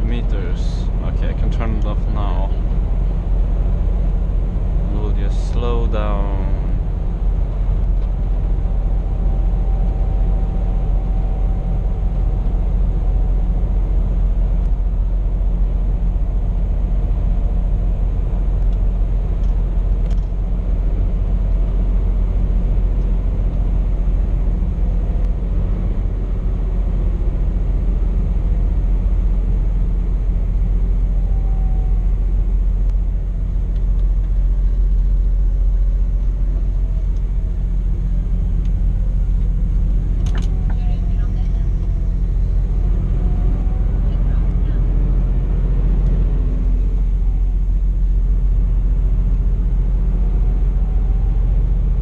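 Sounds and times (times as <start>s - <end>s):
road noise: 0.0s - 52.0s
truck diesel engine rumble: 0.0s - 52.0s.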